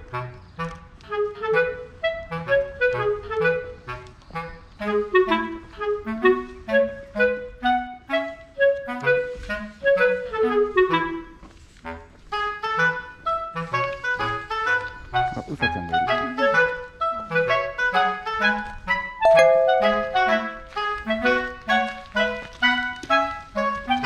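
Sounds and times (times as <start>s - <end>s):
clarinet melody: 1.1s - 11.4s, 12.4s - 24.0s.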